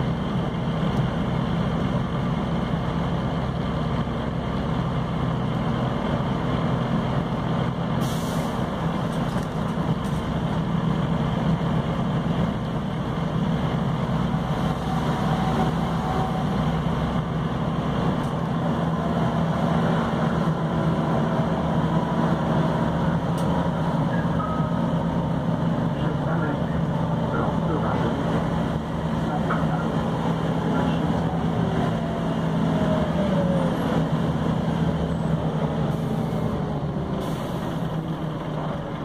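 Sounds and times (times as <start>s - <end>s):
bus diesel engine running: 0.0s - 39.0s
road and cabin rumble: 0.0s - 39.0s.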